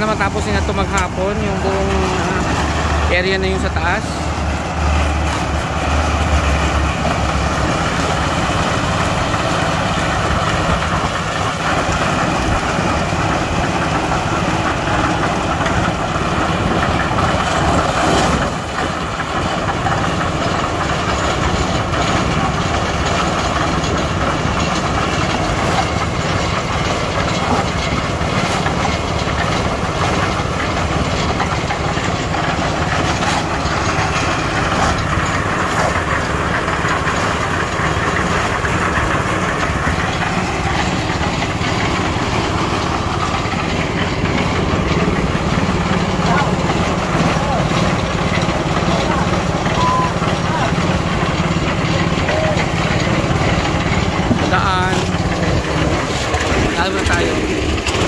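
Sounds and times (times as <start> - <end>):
concrete mixer engine running: 0.0 - 58.0.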